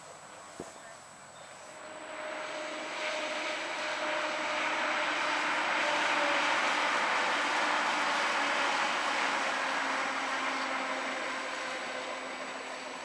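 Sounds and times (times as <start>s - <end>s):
steady train whine: 1.0s - 13.0s.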